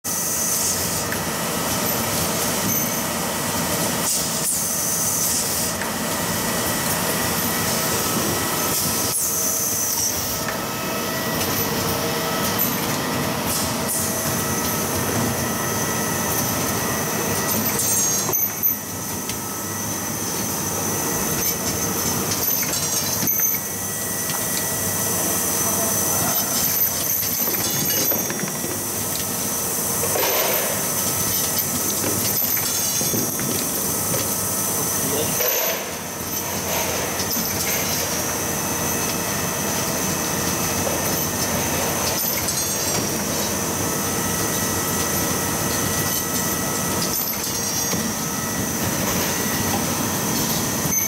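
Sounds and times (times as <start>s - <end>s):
steady machinery noise: 0.1s - 51.0s.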